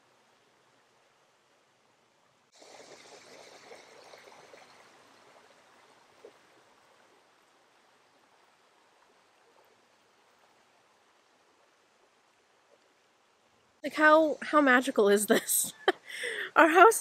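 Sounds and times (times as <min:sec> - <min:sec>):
river water over rocks: 0:00.0 - 0:14.4.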